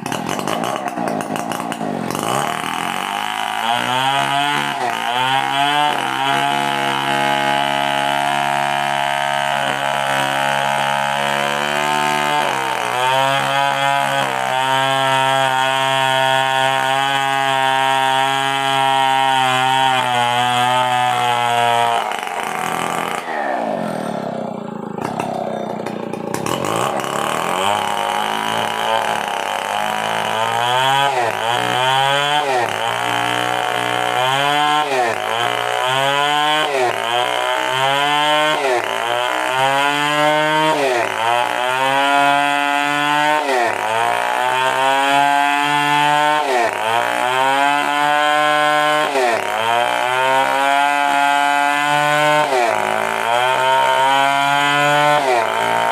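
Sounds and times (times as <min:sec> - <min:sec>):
chainsaw cutting a log: 0:00.0 - 0:55.9.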